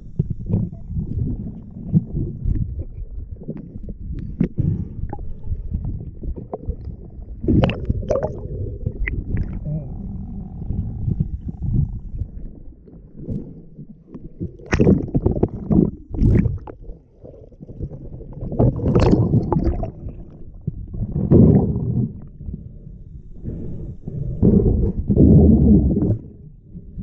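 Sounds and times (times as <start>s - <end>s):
muffled underwater rumble: 0.0s - 27.0s
water gurgling and sloshing: 0.0s - 27.0s.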